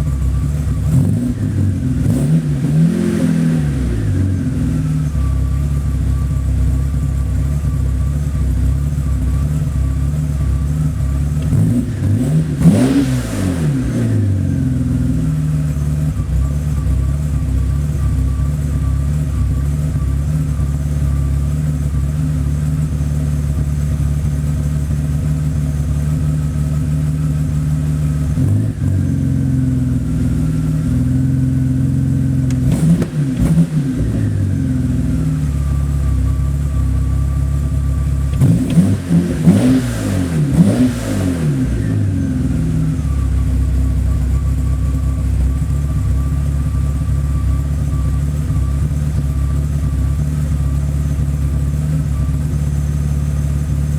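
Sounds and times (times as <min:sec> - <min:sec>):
engine revving: 0:00.0 - 0:07.3, 0:09.0 - 0:20.5, 0:21.9 - 0:53.9
car engine idling: 0:00.0 - 0:53.9.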